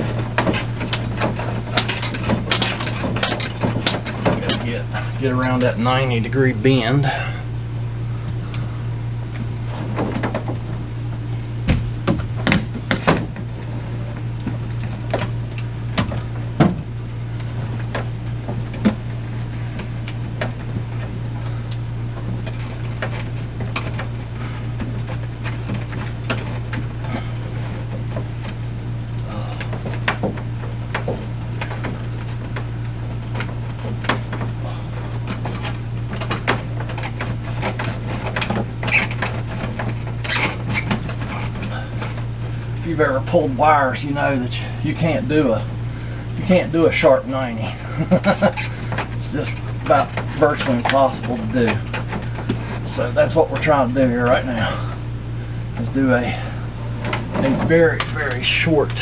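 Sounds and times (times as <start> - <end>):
knocks clicks and scraping: 0.0 - 7.5, 8.3 - 59.0
steady low hum: 0.0 - 59.0.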